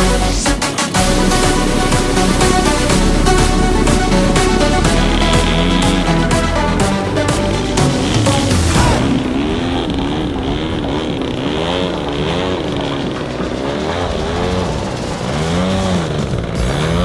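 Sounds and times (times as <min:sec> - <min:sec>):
model airplane engine: 0:00.6 - 0:17.0.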